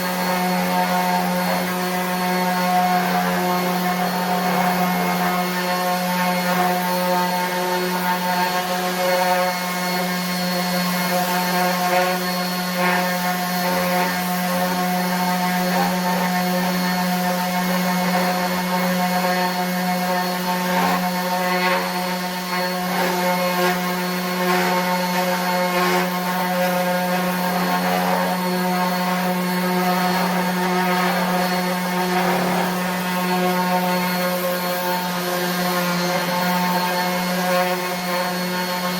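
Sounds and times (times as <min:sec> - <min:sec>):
sander motor hum: 0:00.0 - 0:38.9.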